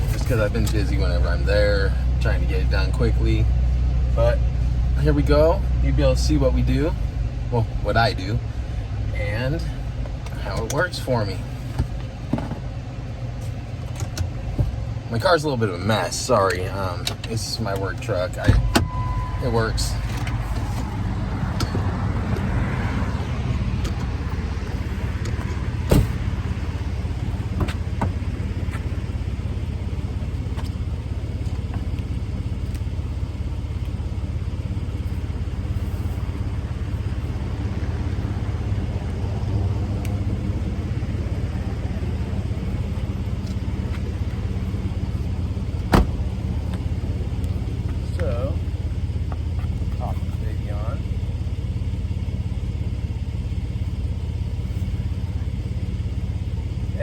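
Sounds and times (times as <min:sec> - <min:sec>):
truck engine rumble in cab: 0:00.0 - 0:57.0.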